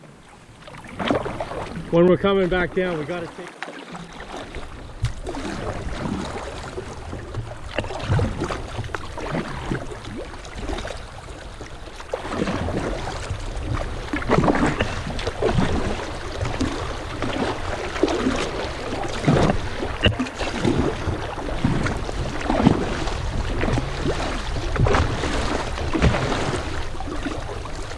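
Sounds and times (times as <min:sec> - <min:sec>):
water splashing against kayak: 0:00.0 - 0:27.9.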